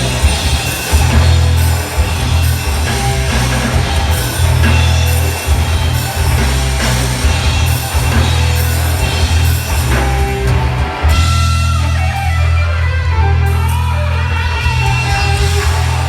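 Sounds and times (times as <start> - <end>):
drum kit: 0.0 - 16.0
electric guitar: 0.0 - 16.0
heavy bass line: 0.0 - 16.0.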